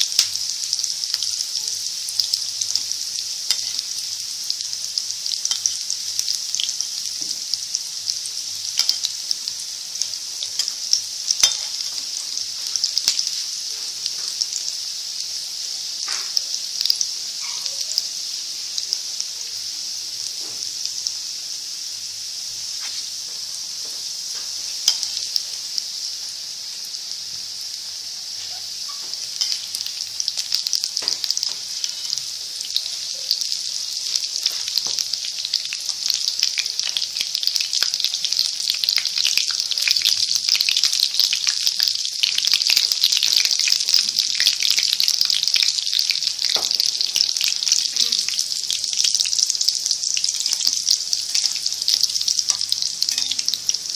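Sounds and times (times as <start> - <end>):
food sizzling in hot oil: 0.0 - 53.9.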